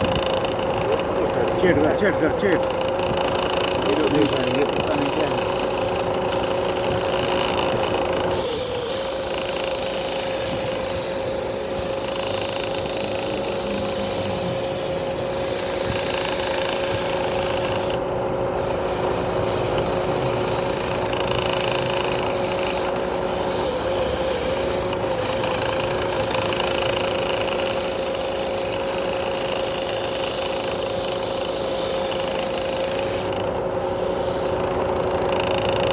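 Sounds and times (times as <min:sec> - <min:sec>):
wood lathe motor whine: 0:00.0 - 0:35.9
cutting tool scraping wood: 0:01.4 - 0:18.0, 0:18.6 - 0:35.8.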